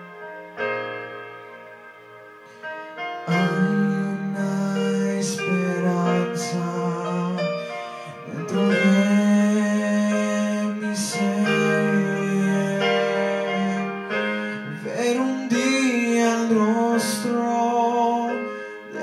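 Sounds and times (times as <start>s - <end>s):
electronic keyboard chords: 0.0s - 19.0s
man singing into a microphone: 3.2s - 19.0s.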